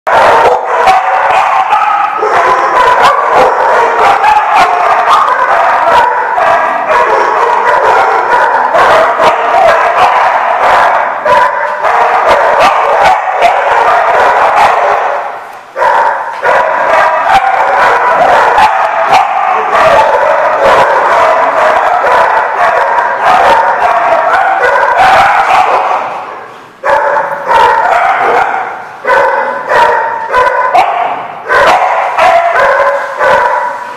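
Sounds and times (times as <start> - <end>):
dogs barking and yipping: 0.1 - 33.9.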